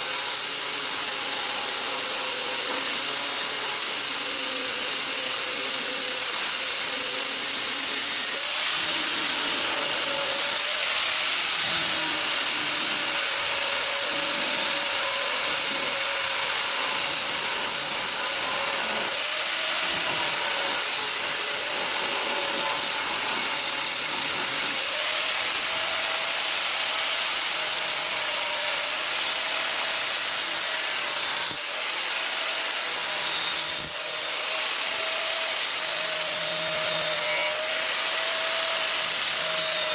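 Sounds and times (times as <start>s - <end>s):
power tool whining into wood: 0.0s - 39.9s.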